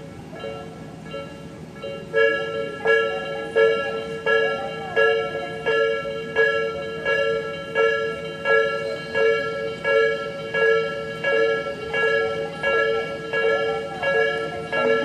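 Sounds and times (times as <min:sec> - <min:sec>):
level crossing warning bell clanging: 0:00.0 - 0:15.0.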